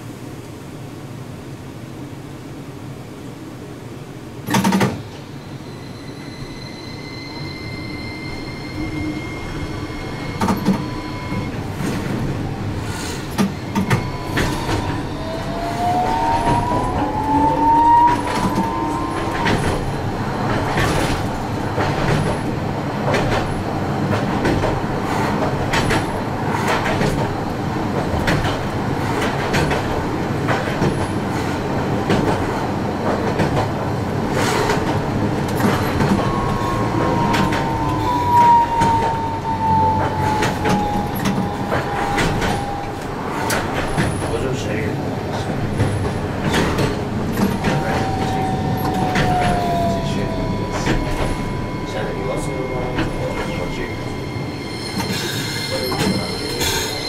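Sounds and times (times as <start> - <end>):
tram running noise: 0.0 - 57.0
tram motor whine: 5.1 - 57.0.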